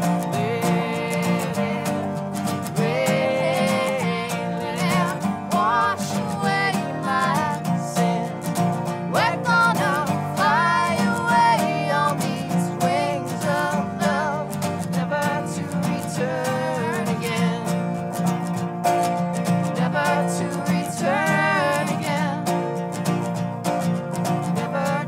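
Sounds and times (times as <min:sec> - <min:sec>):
voices singing with vibrato: 0:00.0 - 0:18.0, 0:19.6 - 0:22.8
acoustic guitars strumming: 0:00.0 - 0:25.0.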